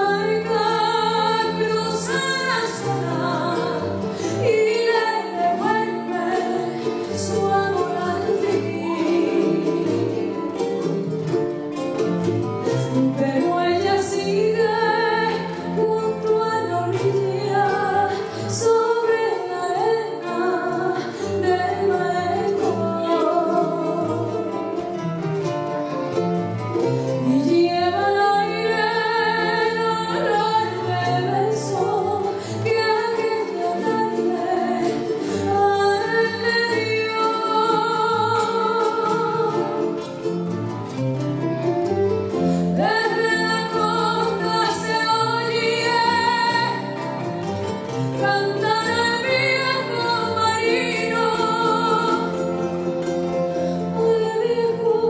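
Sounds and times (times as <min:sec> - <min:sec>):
woman singing: 0:00.0 - 0:11.9, 0:12.8 - 0:25.1, 0:27.2 - 0:40.7, 0:42.3 - 0:55.0
plucked acoustic guitars: 0:00.0 - 0:55.0.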